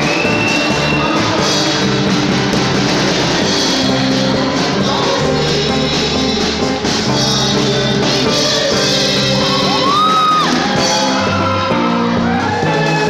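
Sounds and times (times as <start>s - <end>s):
live band playing upbeat music: 0.0s - 13.0s.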